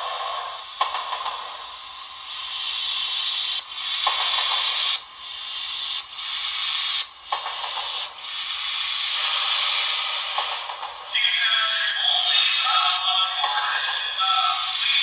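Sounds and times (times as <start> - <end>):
radio static hiss from small speaker: 0.0 - 15.0.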